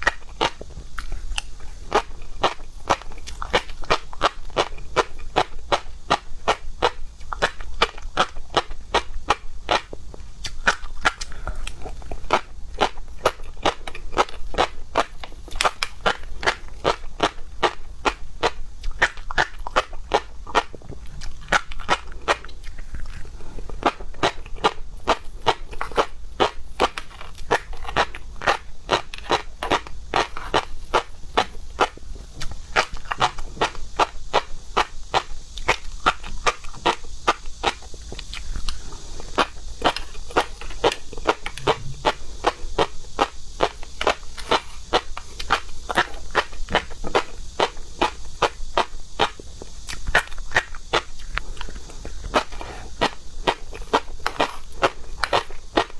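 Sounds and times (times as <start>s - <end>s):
chewing and mouth smacking: 0.0s - 55.9s.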